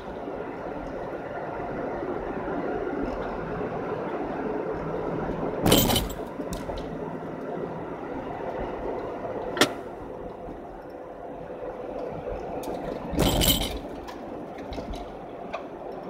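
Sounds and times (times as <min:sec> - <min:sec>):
car tyre and engine noise: 0:00.0 - 0:16.0.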